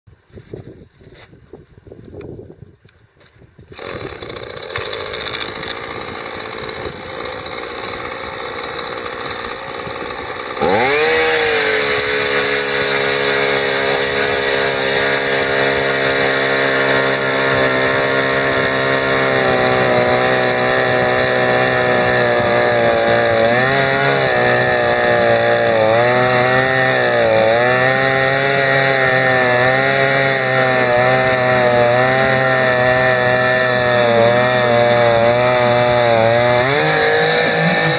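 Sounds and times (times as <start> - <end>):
ice auger engine revving: 3.7 - 37.9.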